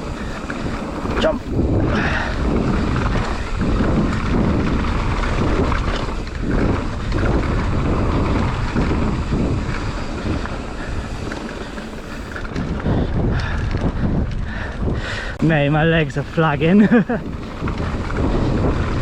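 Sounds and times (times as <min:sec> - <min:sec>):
bike rumbling on rough trail: 0:00.0 - 0:19.0
wind buffeting microphone: 0:00.0 - 0:19.0.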